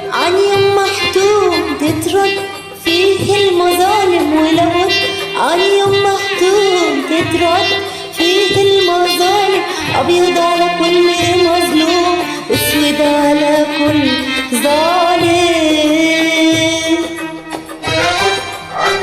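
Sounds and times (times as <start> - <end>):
instrumental accompaniment: 0.0 - 19.0.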